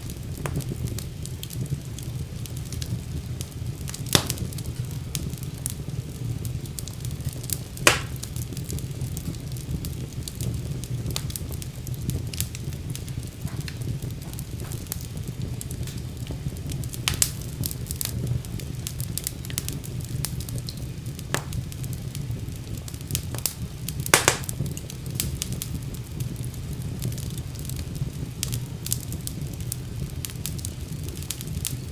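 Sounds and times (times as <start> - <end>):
low rumble of flames: 0.0 - 31.9
wood fire crackles and pops: 0.0 - 31.9.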